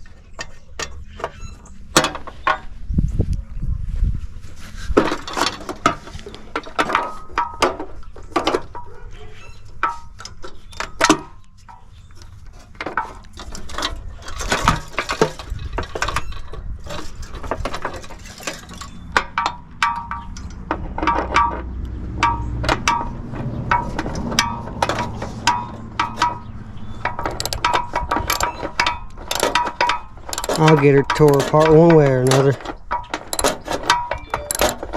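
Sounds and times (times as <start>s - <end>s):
hand tools clinking on metal: 5.0s - 34.9s.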